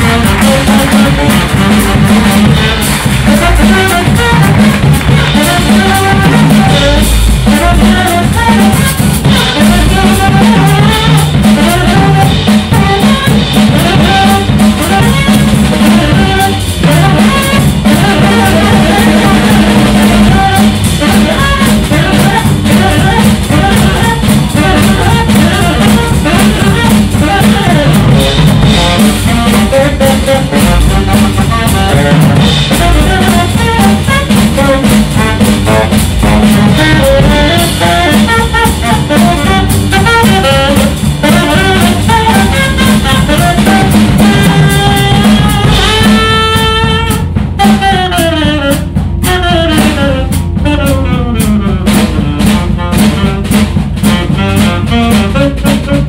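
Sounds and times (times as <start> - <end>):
drum kit: 0.0 - 56.0
saxophone: 0.0 - 56.0
walking double bass: 0.0 - 56.0.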